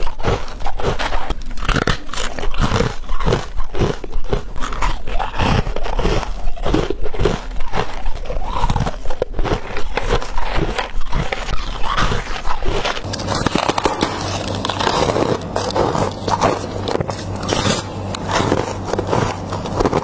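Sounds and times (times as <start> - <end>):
ice crunching in mouth: 0.0 - 20.0.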